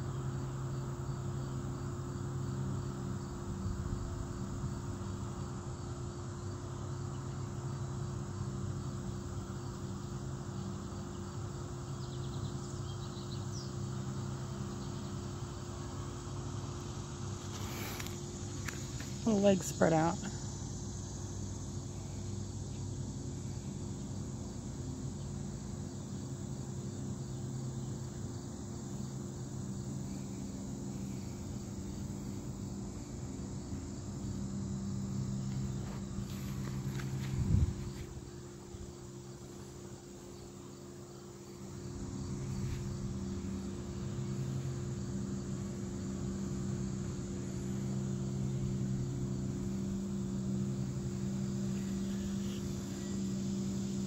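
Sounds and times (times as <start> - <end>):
insects chorus: 0.0 - 54.0
low steady hum: 0.0 - 54.0.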